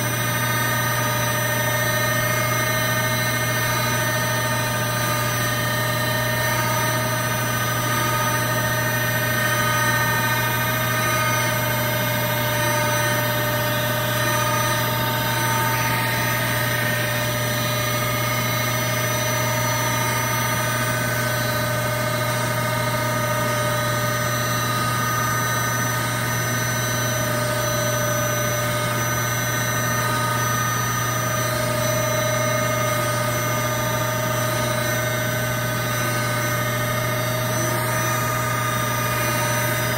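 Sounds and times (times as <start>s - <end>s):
machining center mechanical hum: 0.0s - 39.9s.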